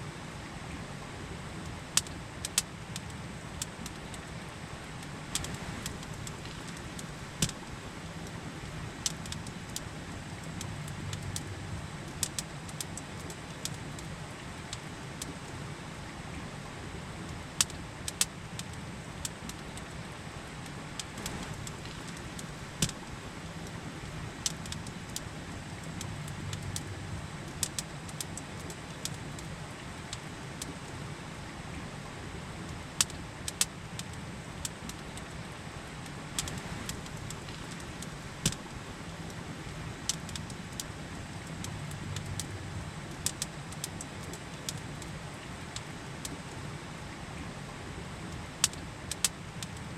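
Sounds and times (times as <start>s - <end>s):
campfire crackling and popping: 1.6s - 15.6s, 17.0s - 31.0s, 32.4s - 46.6s, 48.2s - 49.9s.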